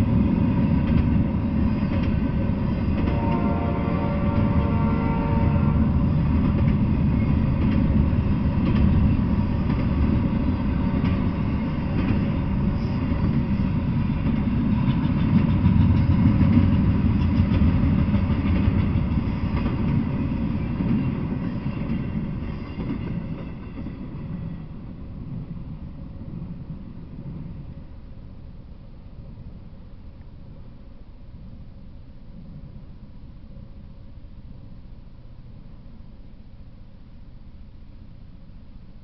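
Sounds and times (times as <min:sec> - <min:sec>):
freight train wheels rumbling: 0:00.0 - 0:35.6.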